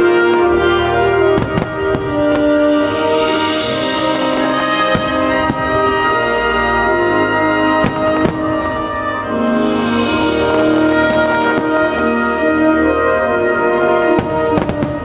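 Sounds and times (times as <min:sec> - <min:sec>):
orchestral music: 0:00.0 - 0:15.0
fireworks bursting with bangs: 0:01.2 - 0:15.0.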